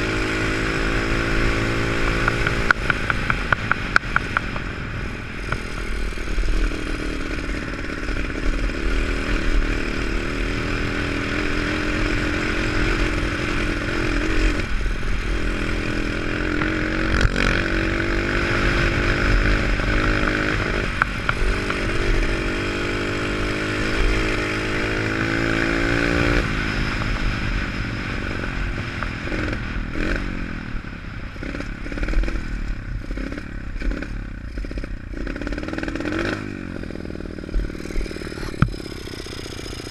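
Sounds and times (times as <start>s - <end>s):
motorbike engine revving: 0.0s - 30.7s, 31.3s - 39.9s.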